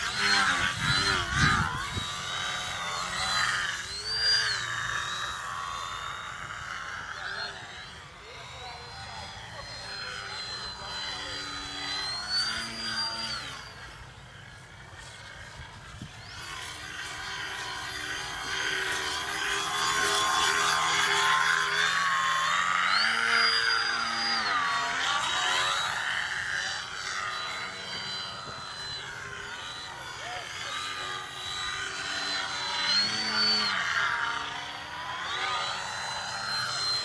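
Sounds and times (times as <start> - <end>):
electric motor and propeller whining: 0.0 - 37.0.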